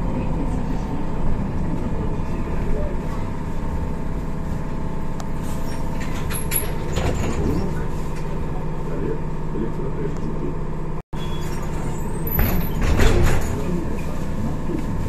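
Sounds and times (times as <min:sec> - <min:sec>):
bus cabin rumble: 0:00.0 - 0:15.0.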